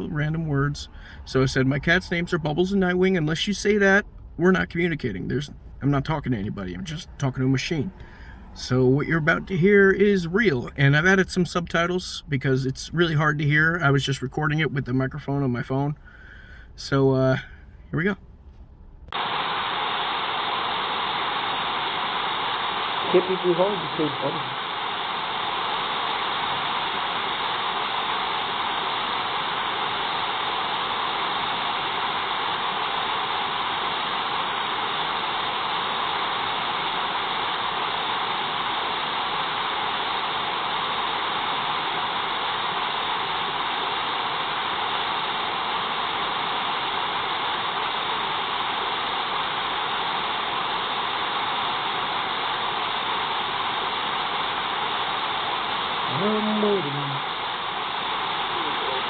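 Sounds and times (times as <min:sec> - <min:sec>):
steady brown noise hiss: 0:00.0 - 0:59.0.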